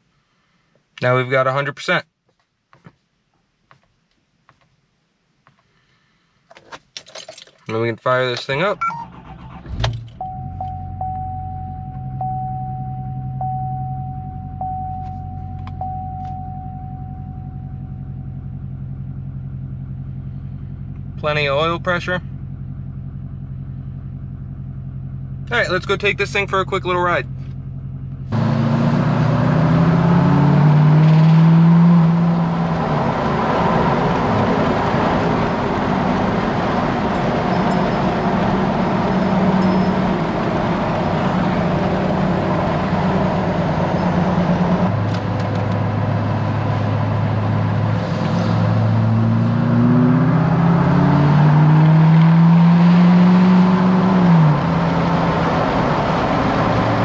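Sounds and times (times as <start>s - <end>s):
road noise: 5.4s - 57.0s
diesel engine accelerating: 8.8s - 57.0s.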